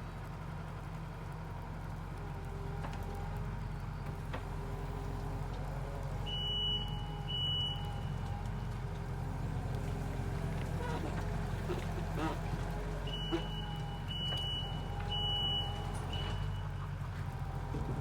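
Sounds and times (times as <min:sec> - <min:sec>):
skid steer engine running: 0:00.0 - 0:18.0.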